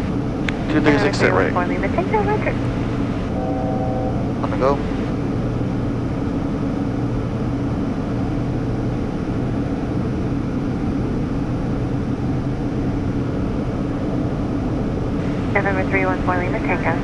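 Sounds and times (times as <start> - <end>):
jet engine drone: 0.0 - 17.0
low steady hum: 0.0 - 17.0.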